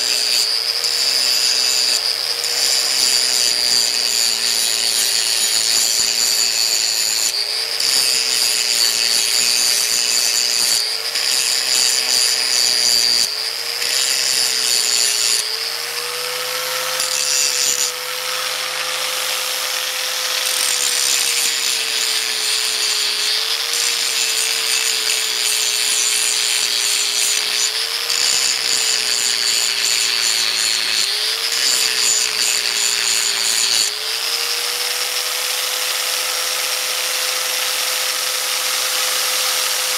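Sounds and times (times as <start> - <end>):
grinding hiss on metal: 0.0 - 34.3
angle grinder motor whining: 0.0 - 39.9.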